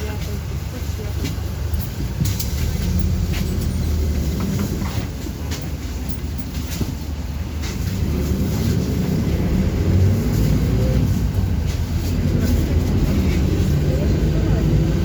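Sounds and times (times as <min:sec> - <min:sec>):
bus engine and road rumble: 0:00.0 - 0:15.0
rattles and clicks: 0:00.0 - 0:15.0.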